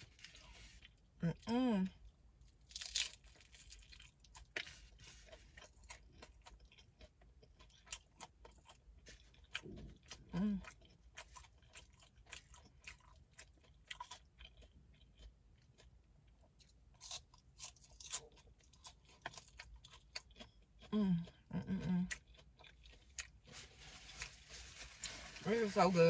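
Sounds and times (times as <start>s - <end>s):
crunchy chewing of taco shell: 0.0s - 1.1s, 2.0s - 25.4s.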